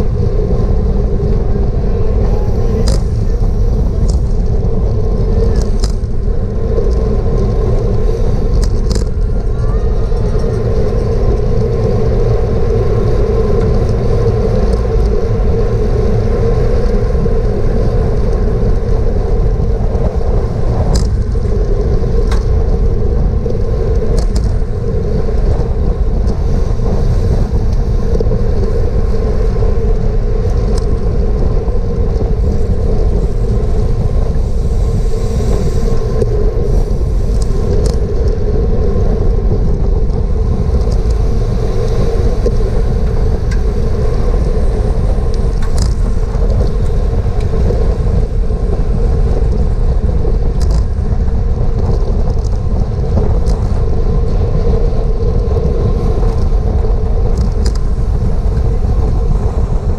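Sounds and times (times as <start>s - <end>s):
wind rushing over camera: 0.0s - 59.9s.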